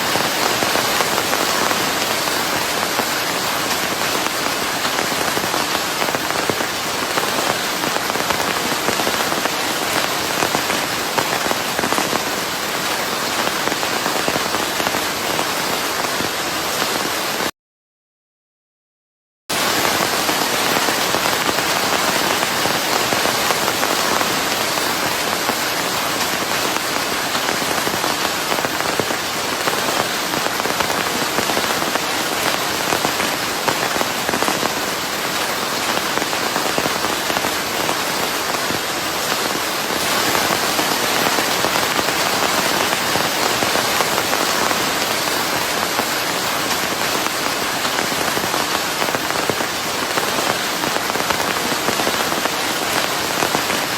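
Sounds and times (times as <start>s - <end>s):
steady rain: 0.0s - 17.5s, 19.5s - 53.9s.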